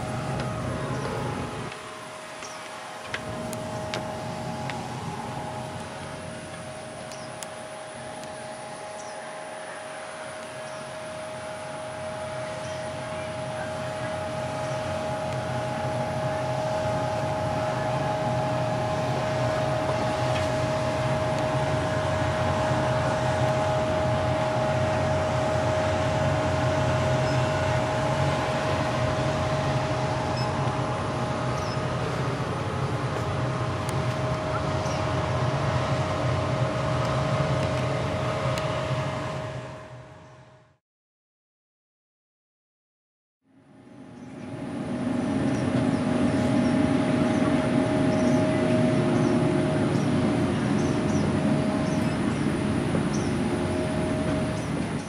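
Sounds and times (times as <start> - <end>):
machinery drone with whine: 0.0 - 40.8, 43.5 - 55.0.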